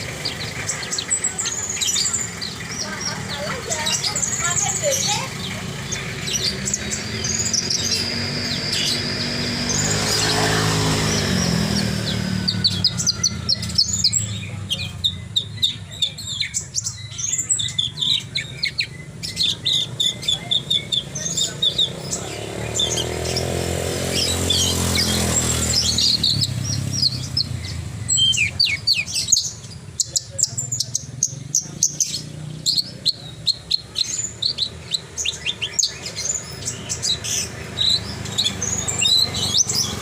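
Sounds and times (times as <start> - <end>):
bird singing chirps and whistles: 0.0 - 40.0.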